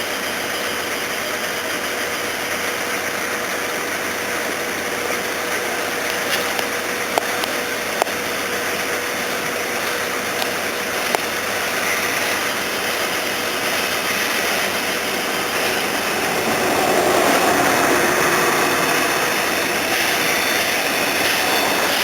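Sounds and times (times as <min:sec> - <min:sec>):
steam train running: 0:00.0 - 0:22.0.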